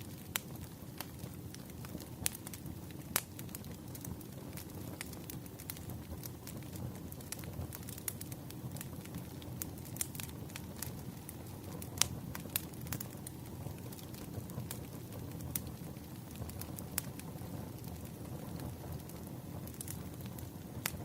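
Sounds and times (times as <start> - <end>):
fire flames rumbling: 0.0 - 21.0
logs popping and crackling: 0.0 - 21.0.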